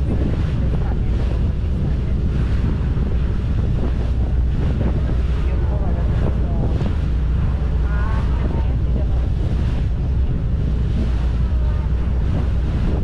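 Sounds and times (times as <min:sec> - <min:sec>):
boat engine drone: 0:00.0 - 0:13.0
water rushing along hull: 0:00.0 - 0:13.0
wind buffeting microphone: 0:00.0 - 0:13.0.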